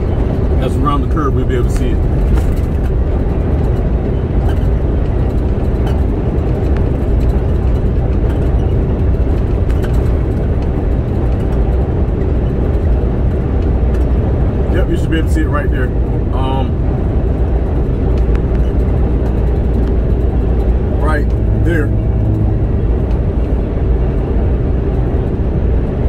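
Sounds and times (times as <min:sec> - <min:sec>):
road noise: 0:00.0 - 0:26.0
truck engine rumble: 0:00.0 - 0:26.0.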